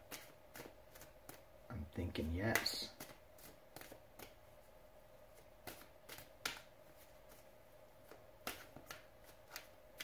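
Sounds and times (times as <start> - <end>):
cards being shuffled: 0.0 - 1.5, 2.2 - 4.4, 5.3 - 10.0.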